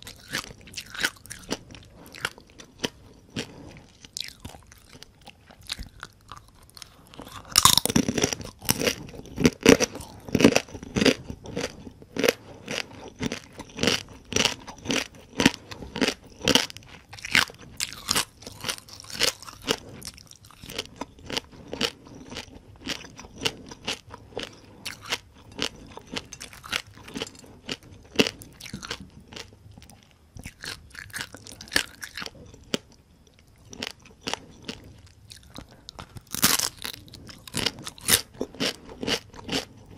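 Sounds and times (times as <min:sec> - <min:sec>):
crunching and chewing crispy food: 0:00.0 - 0:39.9.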